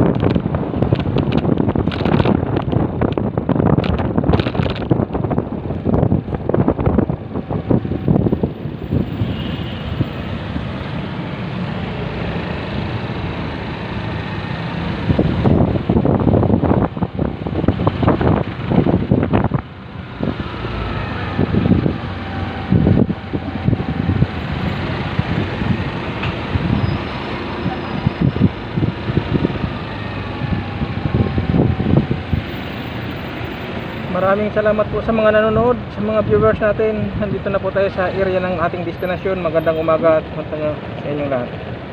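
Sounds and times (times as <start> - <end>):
wind buffeting microphone: 0.0 - 12.0, 12.7 - 38.5.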